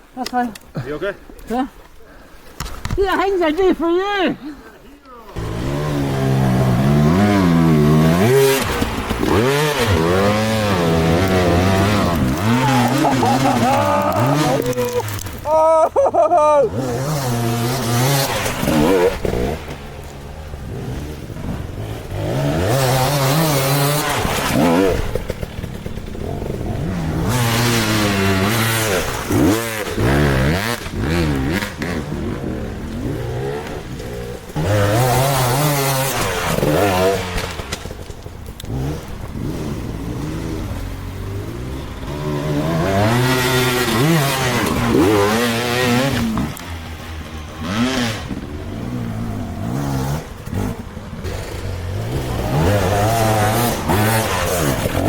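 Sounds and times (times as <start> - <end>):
motorbike engine revving: 5.4 - 55.0.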